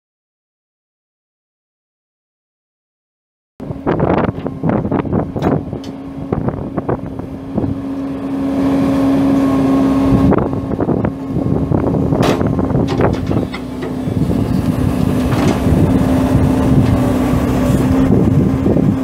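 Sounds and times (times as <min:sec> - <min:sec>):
diesel excavator engine humming: 0:03.6 - 0:19.0.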